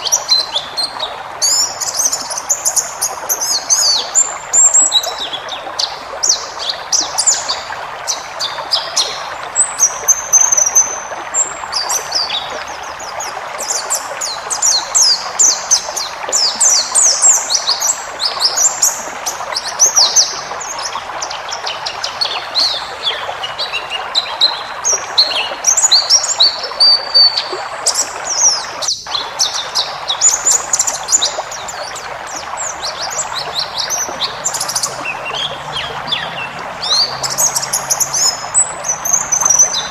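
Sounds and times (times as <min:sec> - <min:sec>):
bird twittering and trilling: 0:00.0 - 0:12.6, 0:13.2 - 0:39.9.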